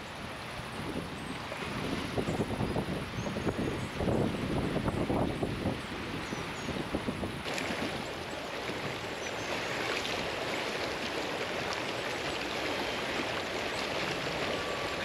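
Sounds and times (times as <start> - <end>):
river rushing over stones: 0.1 - 15.0.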